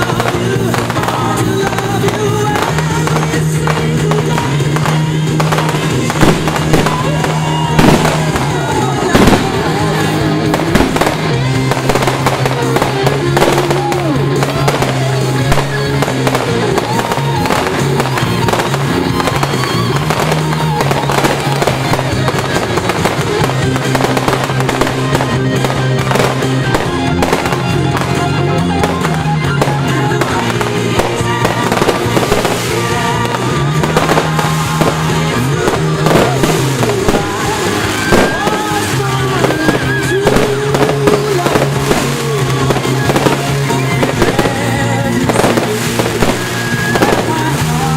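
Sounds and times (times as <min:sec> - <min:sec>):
fireworks bangs and crackles: 0:00.0 - 0:47.9
music with sustained chords: 0:00.0 - 0:47.9.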